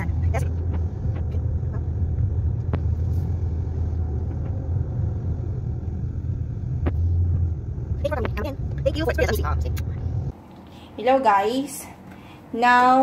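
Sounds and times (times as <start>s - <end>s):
car engine and tyres rumbling: 0.0s - 10.8s.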